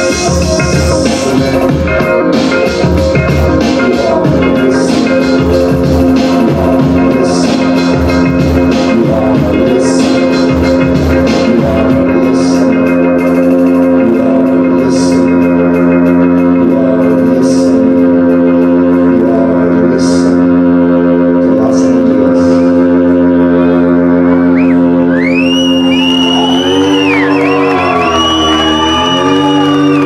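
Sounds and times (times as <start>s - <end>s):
gliding synth tones: 0.0s - 30.0s
organ-like keyboard drone: 0.0s - 30.0s.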